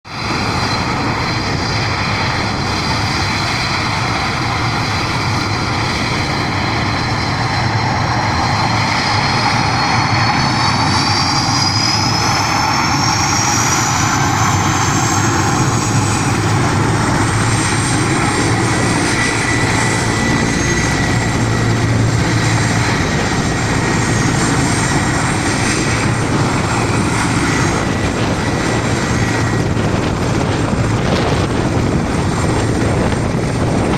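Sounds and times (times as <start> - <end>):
helicopter rotor noise: 0.0 - 33.9
helicopter turbine engine whine: 0.0 - 33.9.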